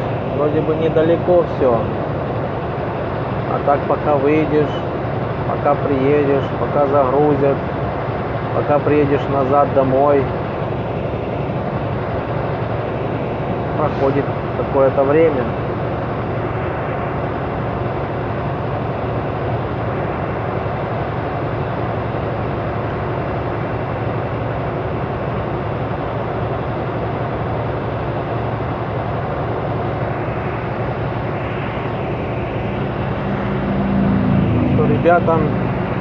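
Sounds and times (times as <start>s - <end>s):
road noise: 0.0s - 36.0s
truck engine drone: 0.0s - 36.0s.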